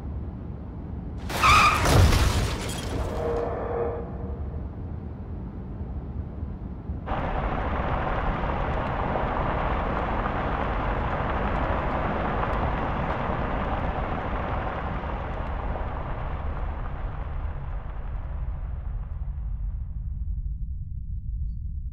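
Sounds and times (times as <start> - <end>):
car tyre and wind noise: 0.0 - 21.4
low rumble: 1.9 - 21.9.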